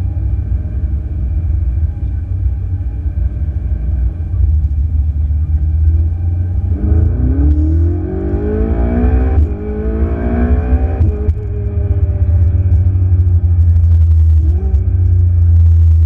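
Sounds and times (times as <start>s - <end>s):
sports car engine accelerating: 0.0s - 16.0s
steady low rumble: 0.0s - 16.0s.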